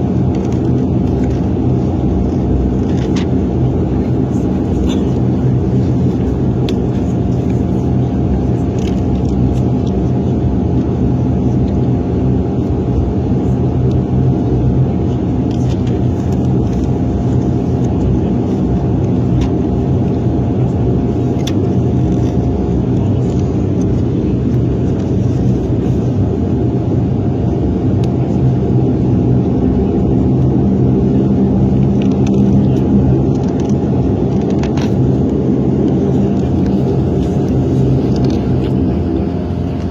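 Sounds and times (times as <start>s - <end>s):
airplane cabin propeller drone: 0.0s - 39.9s.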